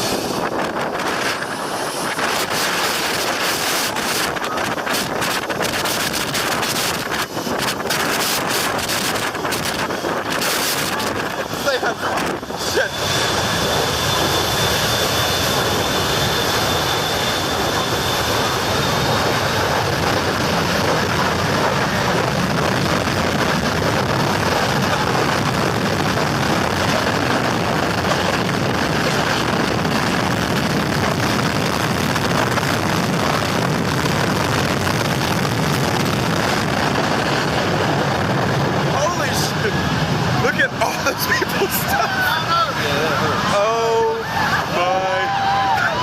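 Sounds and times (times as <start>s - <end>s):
high-pitched whine: 0.0s - 46.0s
jet engines roaring at takeoff: 0.0s - 46.0s.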